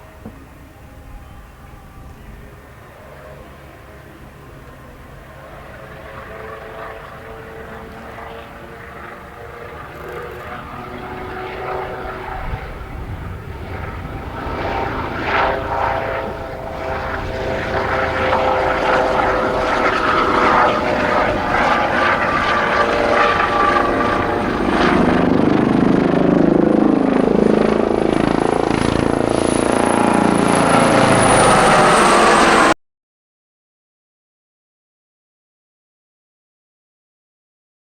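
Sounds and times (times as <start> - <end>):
helicopter rotor and engine: 0.0 - 32.8.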